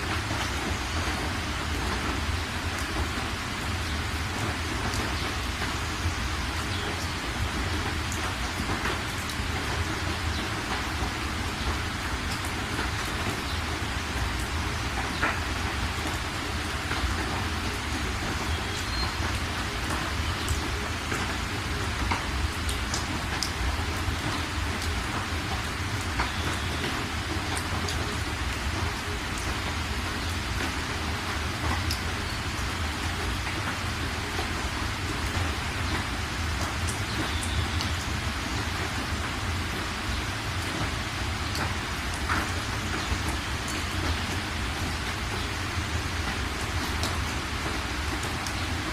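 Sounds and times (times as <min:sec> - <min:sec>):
raindrops ticking: 0:00.0 - 0:48.9
steady rain hiss: 0:00.0 - 0:48.9.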